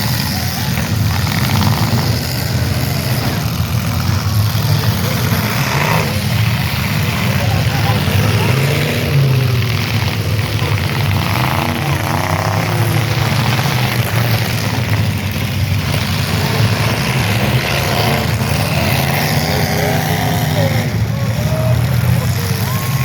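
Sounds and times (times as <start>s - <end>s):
background voices: 0.0s - 23.0s
car engines rumbling: 0.0s - 23.0s.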